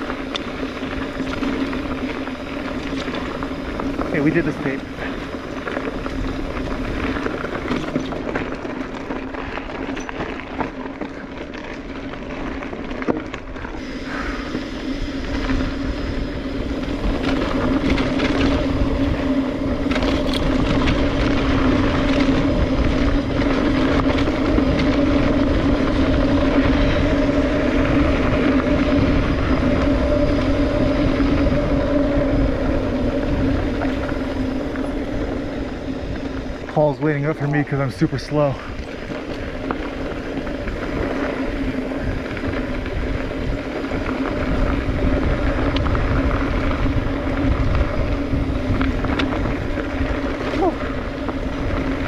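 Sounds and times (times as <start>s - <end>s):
bike knocking and rattling: 0.0s - 52.0s
bike tyres crunching on gravel: 0.0s - 52.0s.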